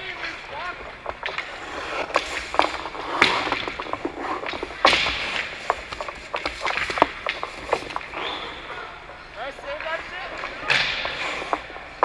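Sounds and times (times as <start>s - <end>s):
hockey sticks hitting pucks: 0.0s - 12.0s
skate blades scraping ice: 0.0s - 12.0s.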